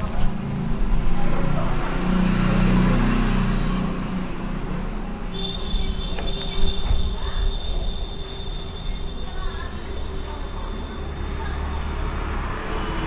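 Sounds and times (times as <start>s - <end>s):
vehicle engine: 0.0s - 13.0s.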